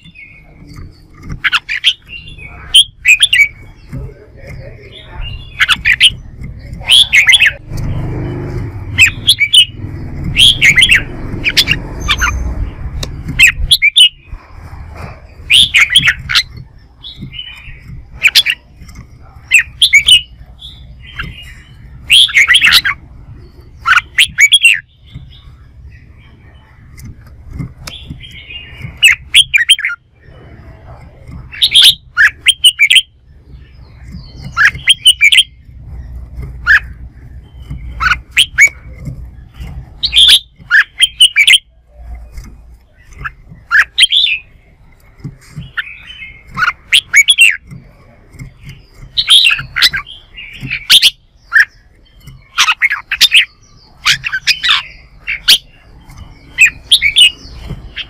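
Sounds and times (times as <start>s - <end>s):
bird chirping: 0.0s - 58.0s
low rumbling: 0.0s - 58.0s.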